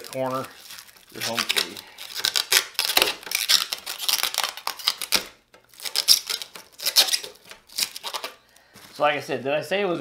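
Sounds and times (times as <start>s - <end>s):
plastic film peeling off: 0.0s - 9.0s.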